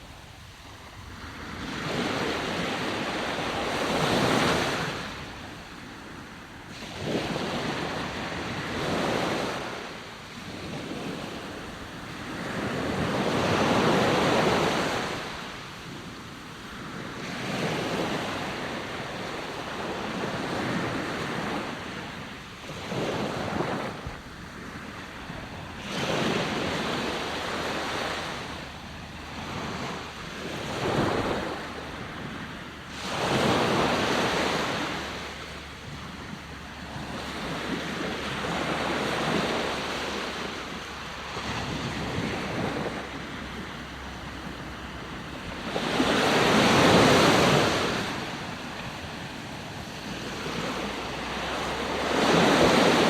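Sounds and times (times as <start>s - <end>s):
sea waves breaking ashore: 0.0s - 53.0s.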